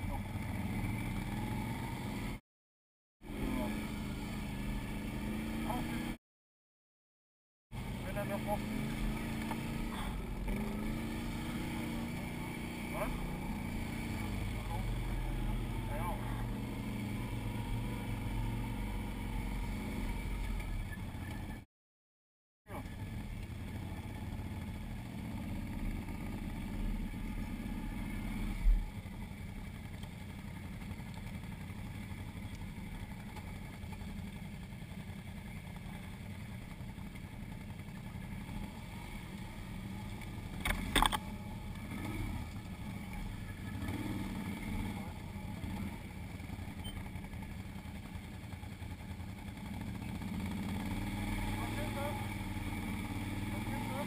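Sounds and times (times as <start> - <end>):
atv engine low rumble: 0.0 - 2.4, 3.2 - 6.2, 7.7 - 21.6, 22.7 - 54.0.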